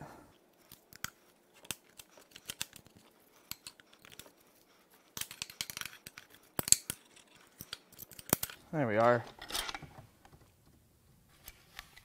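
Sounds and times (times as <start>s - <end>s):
screwdrivers clicking and scraping metal: 0.4s - 10.0s.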